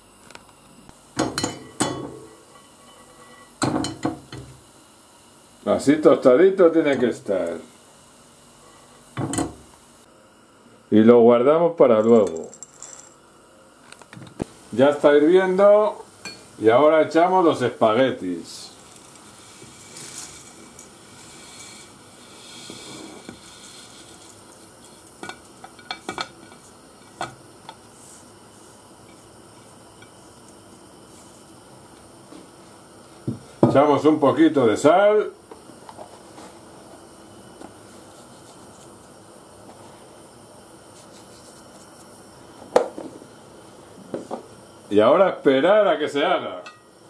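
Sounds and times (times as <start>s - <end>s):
boiling water hissing: 0.0s - 11.3s, 13.2s - 47.0s.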